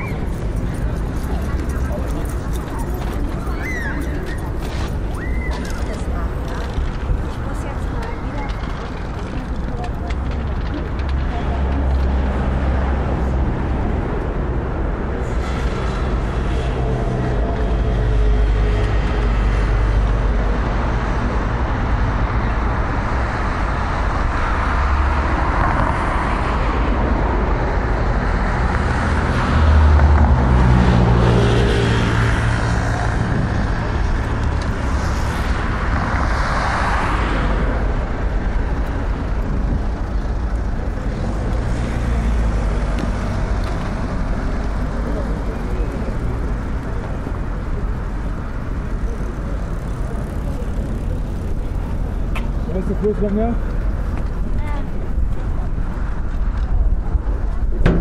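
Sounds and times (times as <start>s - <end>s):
rumble of cars: 0.0s - 58.0s
vehicles passing close by: 0.0s - 58.0s.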